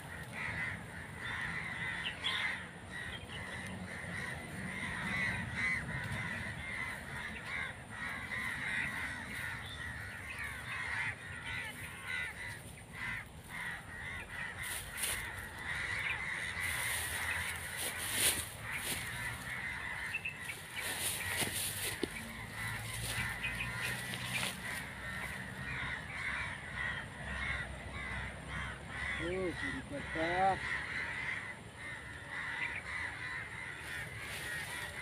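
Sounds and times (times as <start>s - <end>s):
crows cawing: 0.0s - 35.0s.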